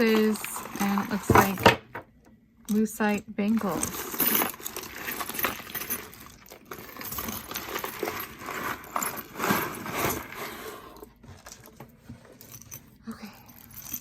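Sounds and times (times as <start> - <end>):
jewelry clattering and jingling: 0.0 - 14.0.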